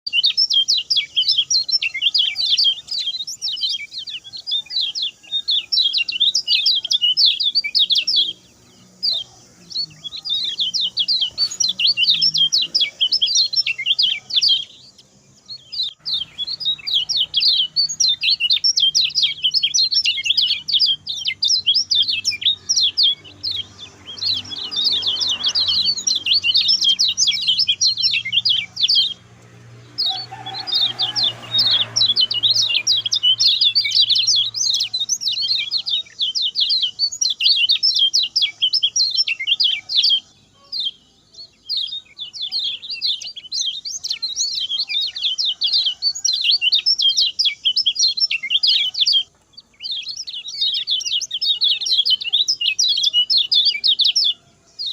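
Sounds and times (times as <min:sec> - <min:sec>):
bird twittering song: 0:00.0 - 0:54.9.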